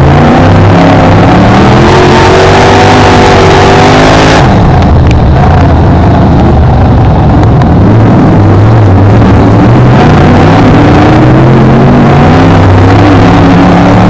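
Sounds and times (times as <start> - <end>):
race car engine: 0.0 - 14.0.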